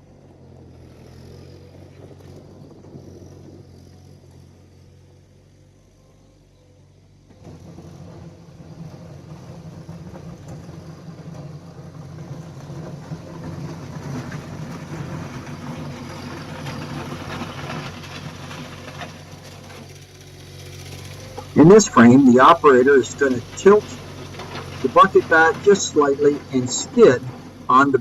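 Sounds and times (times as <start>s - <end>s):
skid steer engine running: 0.0s - 28.0s.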